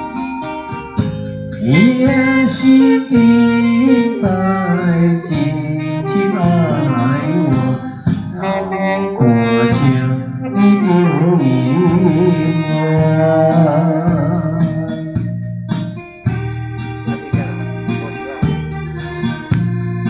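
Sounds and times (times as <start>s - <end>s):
slow love song instrumental: 0.0s - 20.0s.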